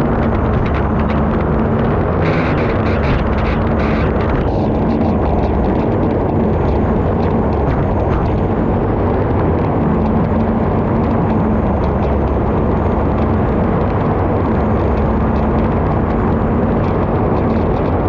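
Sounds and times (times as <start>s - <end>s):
faint steady hum: 0.0s - 18.0s
turbine engine roaring: 0.0s - 18.0s.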